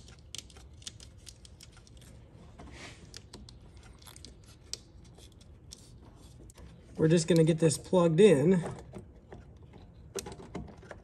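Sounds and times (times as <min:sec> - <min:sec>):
clicks and rustling of wiring: 0:00.0 - 0:11.0.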